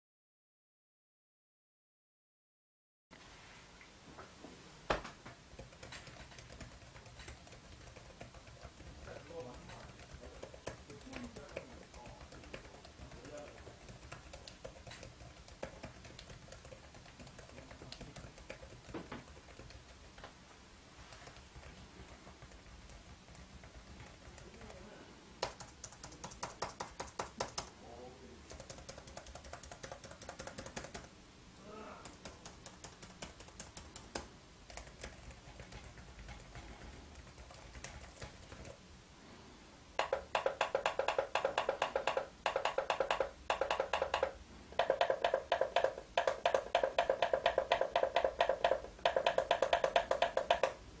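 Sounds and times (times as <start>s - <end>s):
typing on laptop keyboard: 5.5s - 20.2s, 21.1s - 24.8s, 25.4s - 27.7s, 28.5s - 31.1s, 32.0s - 38.8s, 40.0s - 50.8s.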